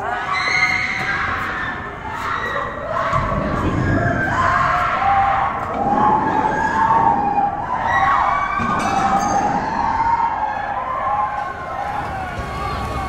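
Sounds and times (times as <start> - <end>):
many voices screaming in panic: 0.0 - 13.0.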